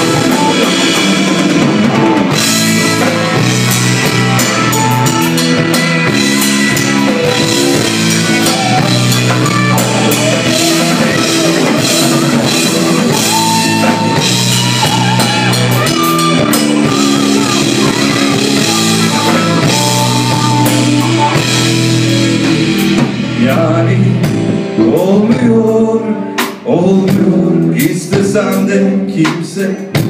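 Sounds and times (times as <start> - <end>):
sliding guitar notes: 0.0 - 24.8
electric guitars: 0.0 - 29.1
drum kit: 0.0 - 30.0.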